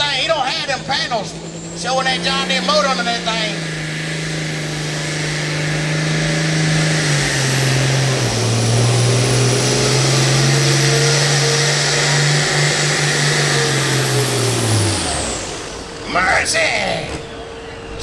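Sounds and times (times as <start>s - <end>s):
high steady whine: 0.0s - 18.0s
tractor diesel engine under load: 0.0s - 18.0s.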